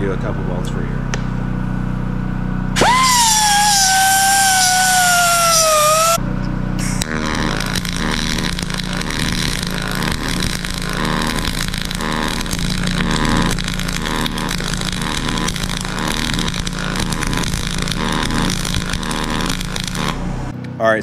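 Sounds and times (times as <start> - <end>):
low buzz: 1.6 - 20.6
welding arc crackling: 2.8 - 6.2, 6.8 - 20.5.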